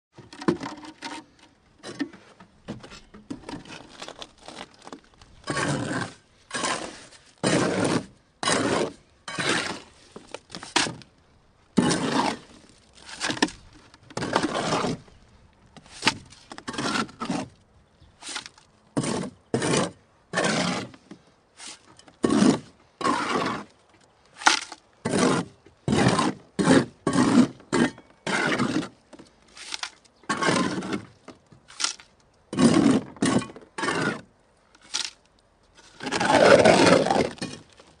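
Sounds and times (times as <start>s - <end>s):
trowel scraping wet concrete: 0.3s - 11.0s, 11.8s - 15.2s, 15.8s - 17.6s, 18.2s - 21.0s, 21.6s - 23.8s, 24.4s - 35.2s, 35.8s - 37.8s.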